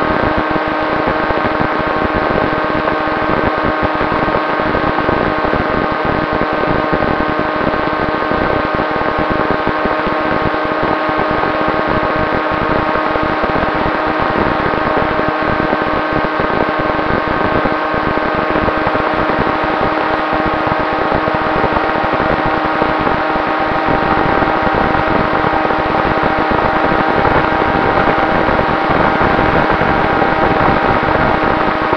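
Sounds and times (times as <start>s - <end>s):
drone motors whining: 0.0s - 31.9s
wind buffeting microphone: 0.0s - 31.9s.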